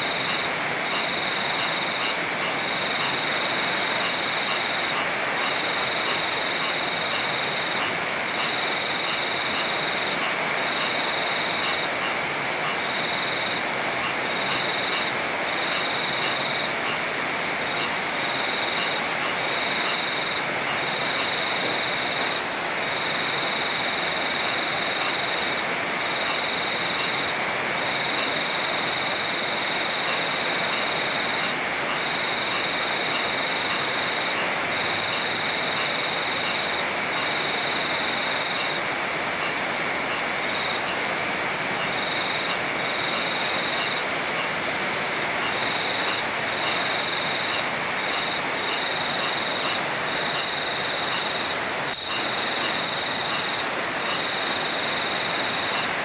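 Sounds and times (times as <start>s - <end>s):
heavy rain: 0.0s - 56.0s
rushing river water: 0.0s - 56.0s.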